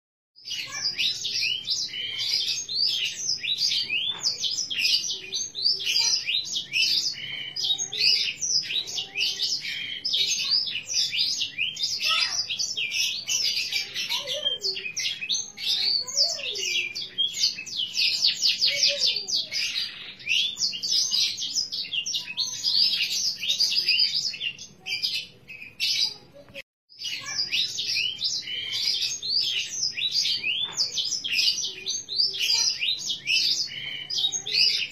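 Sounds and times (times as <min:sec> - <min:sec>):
canary singing: 0:00.4 - 0:34.9.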